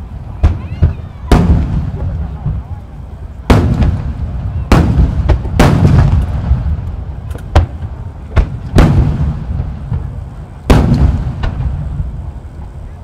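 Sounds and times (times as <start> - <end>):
rolling rumble: 0.0 - 13.0
smaller firework reports: 0.0 - 13.0
firework shells booming: 0.3 - 12.5.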